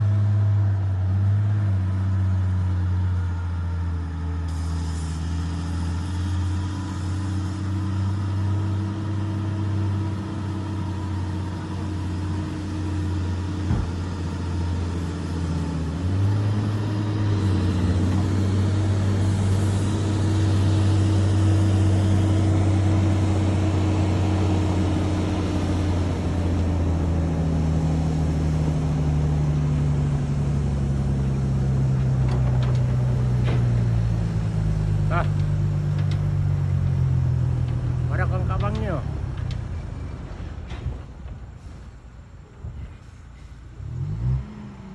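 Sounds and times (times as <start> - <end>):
excavator diesel engine running: 0.0 - 44.4.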